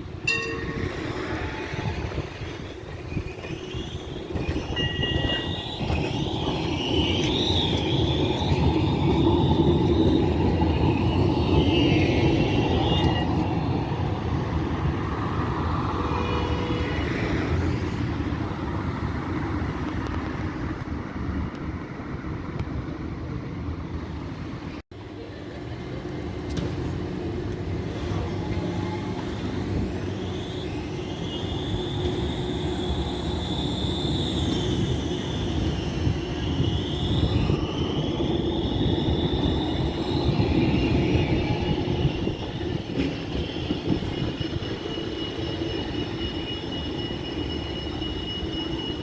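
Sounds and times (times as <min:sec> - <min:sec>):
road noise: 0:00.0 - 0:49.0
tram wheels rumbling on rails: 0:00.0 - 0:49.0.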